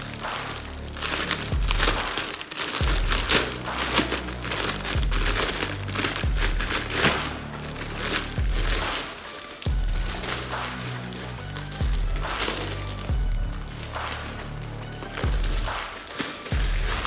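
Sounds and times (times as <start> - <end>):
background music: 0.0 - 17.0
plastic bag crinkling: 0.0 - 17.0.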